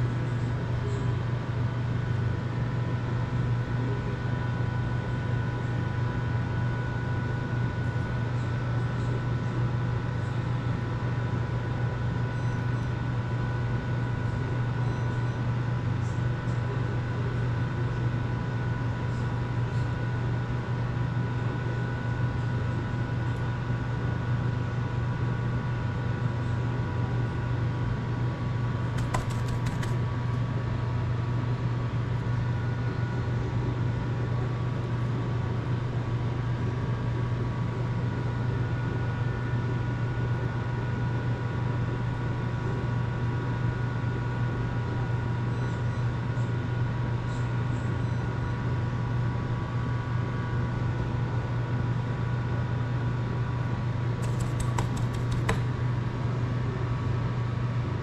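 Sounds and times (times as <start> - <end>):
machine hum with low drone: 0.0 - 58.0.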